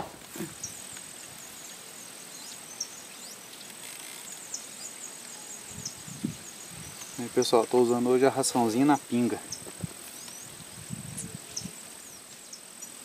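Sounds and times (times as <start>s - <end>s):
high-pitched insect trill: 0.6s - 13.0s.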